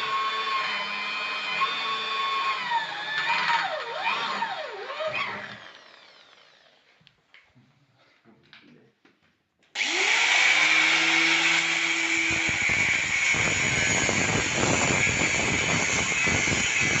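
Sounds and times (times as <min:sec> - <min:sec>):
power tool motor whine: 0:00.0 - 0:07.0, 0:09.8 - 0:17.0.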